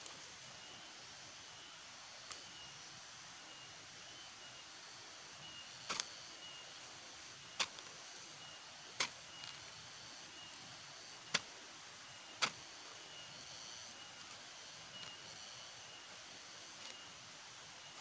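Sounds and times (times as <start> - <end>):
faint steady hiss: 0.0 - 18.0
thin high chirping: 3.5 - 18.0.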